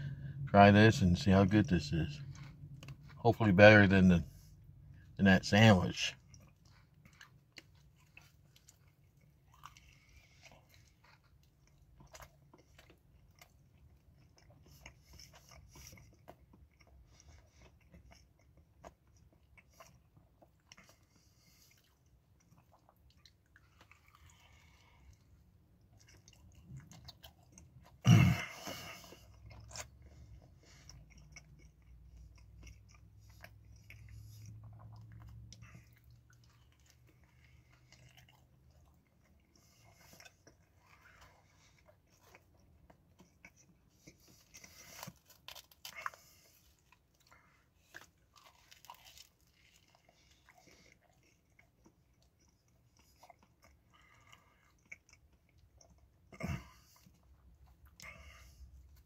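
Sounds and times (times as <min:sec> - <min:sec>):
man chewing pizza: 0:00.0 - 0:59.0.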